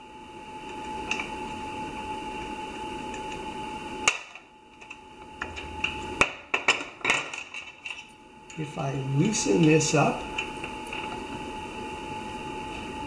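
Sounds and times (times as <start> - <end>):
low hum: 0.0 - 13.0
machine high whine: 0.0 - 13.0.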